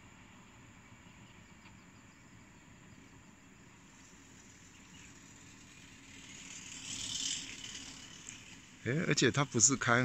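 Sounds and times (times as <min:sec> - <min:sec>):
distant train rumble: 0:00.0 - 0:10.0
insects chirping: 0:00.1 - 0:10.0.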